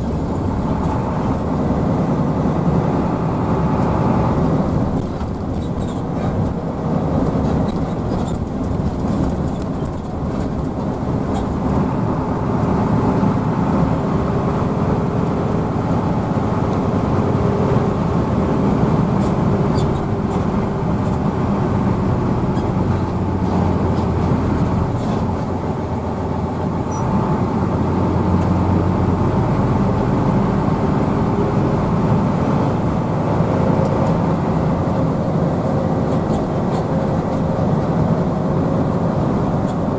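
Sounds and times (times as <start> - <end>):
bus diesel engine running: 0.0 - 39.9
road noise: 0.0 - 39.9.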